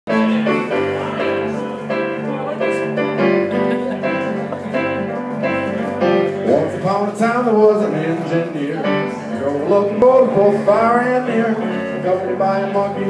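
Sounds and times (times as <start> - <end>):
electric piano chords: 0.1 - 13.0.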